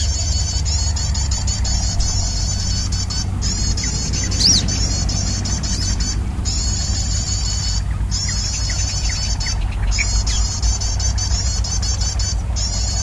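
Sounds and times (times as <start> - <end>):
low rumble: 0.0 - 13.0
rapid high bird call recording: 0.0 - 13.0
wild birds chirping: 0.0 - 13.0.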